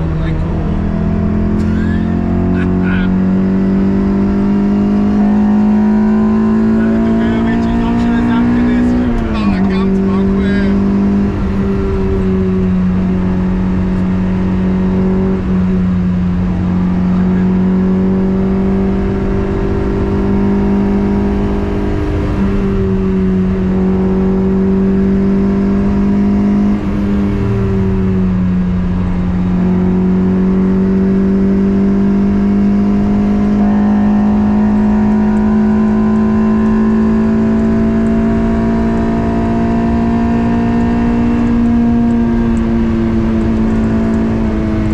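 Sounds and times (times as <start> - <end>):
car engine running at high revs: 0.0 - 44.9.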